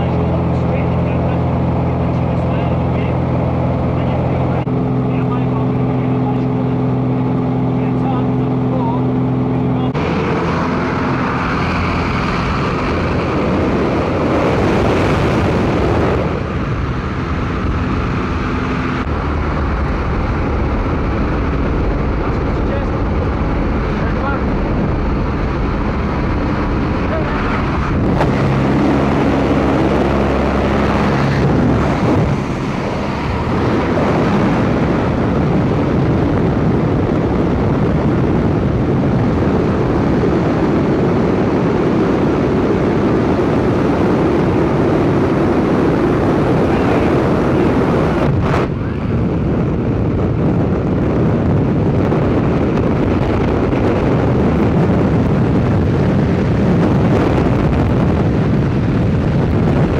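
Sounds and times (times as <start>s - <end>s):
aircraft engine noise: 0.0s - 59.9s
wind blasting over microphone: 0.0s - 59.9s
wind rush: 0.0s - 59.9s.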